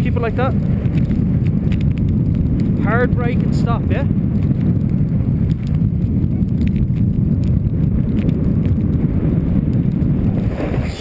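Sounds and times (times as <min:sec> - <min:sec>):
wind rumble on microphone: 0:00.0 - 0:11.0
snowboards sliding over snow: 0:00.1 - 0:11.0.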